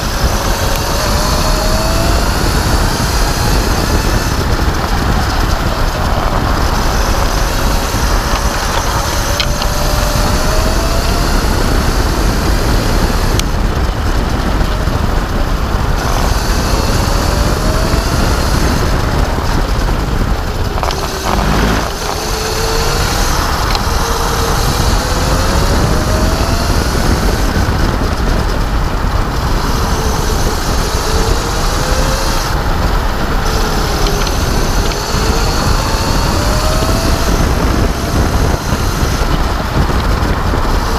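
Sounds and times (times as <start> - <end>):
electric kart motor whine: 0.0 - 40.9
wind and road rumble: 0.0 - 40.9.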